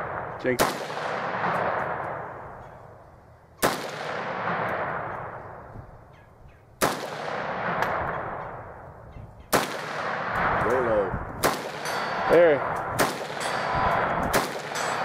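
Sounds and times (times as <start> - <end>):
rifle shots with echo: 0.0 - 2.9, 3.6 - 5.7, 6.8 - 8.9, 9.5 - 15.0.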